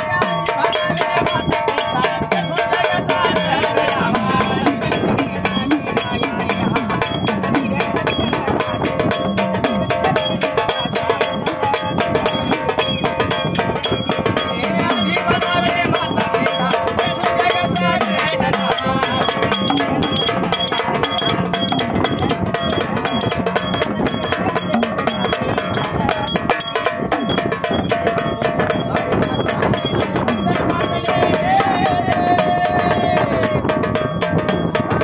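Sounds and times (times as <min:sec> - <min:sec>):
drum beat: 0:00.0 - 0:35.0
jingling percussion: 0:00.0 - 0:35.0.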